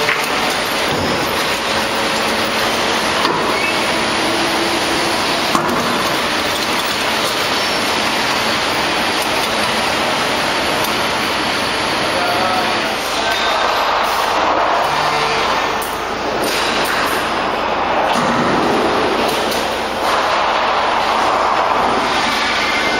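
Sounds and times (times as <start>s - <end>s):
industrial machinery noise: 0.0s - 22.9s.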